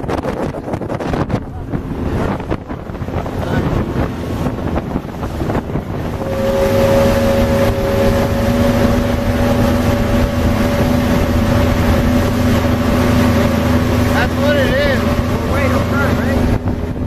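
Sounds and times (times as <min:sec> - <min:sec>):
outboard engine humming: 0:00.0 - 0:17.0
water rushing past hull: 0:00.0 - 0:17.0
wind buffeting microphone: 0:00.0 - 0:17.0.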